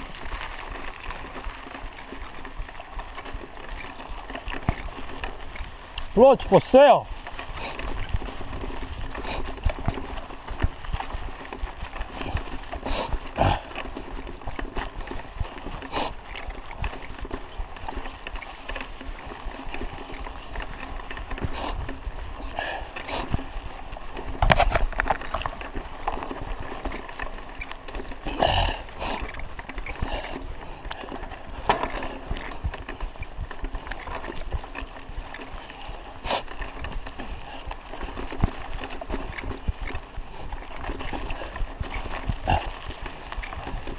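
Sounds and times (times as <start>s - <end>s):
bike knocking and rattling: 0.0s - 43.9s
bike tyres crunching on stones: 0.0s - 43.9s.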